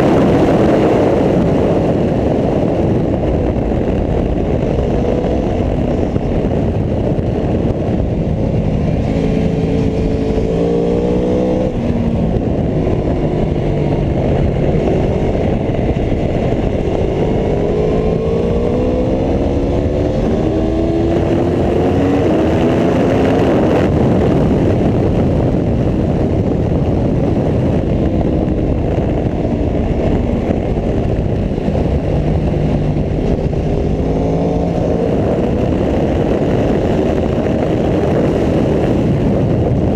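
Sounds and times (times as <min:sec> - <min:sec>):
motorcycle engine revving through gears: 0:00.0 - 0:39.9
wind noise: 0:00.0 - 0:39.9.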